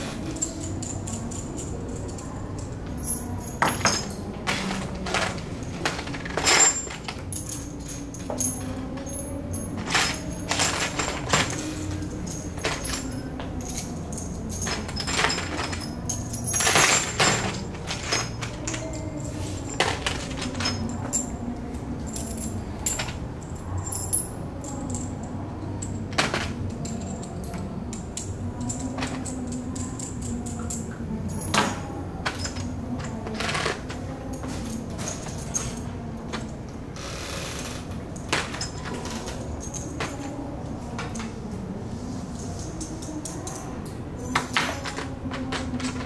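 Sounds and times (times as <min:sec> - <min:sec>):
metal bolts and nuts clinking: 0:00.0 - 0:21.4, 0:25.8 - 0:37.6, 0:38.2 - 0:41.4, 0:42.4 - 0:46.0.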